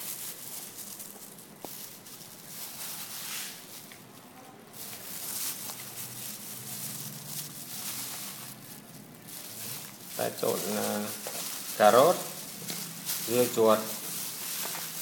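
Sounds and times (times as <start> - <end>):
gloved hand rustling food in bowl: 0.0 - 15.0.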